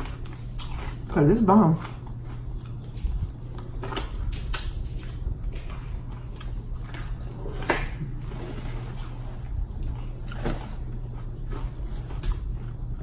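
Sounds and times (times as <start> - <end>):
person chewing food: 0.0 - 13.0
steady low hum: 0.0 - 13.0.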